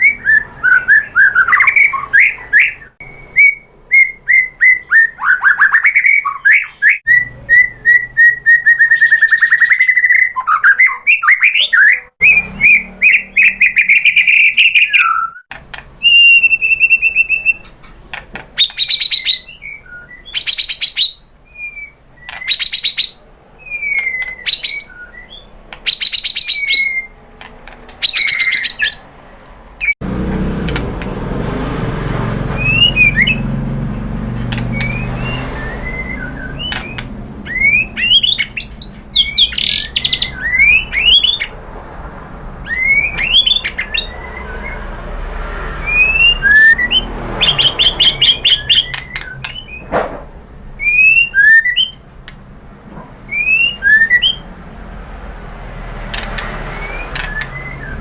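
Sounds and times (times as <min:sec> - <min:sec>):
bird singing whistles and trills: 0:00.0 - 0:17.8, 0:18.6 - 0:30.0, 0:32.5 - 0:33.9, 0:34.5 - 0:41.5, 0:42.6 - 0:45.1, 0:45.8 - 0:49.9, 0:50.8 - 0:52.0, 0:53.3 - 0:54.5, 0:56.6 - 0:58.0.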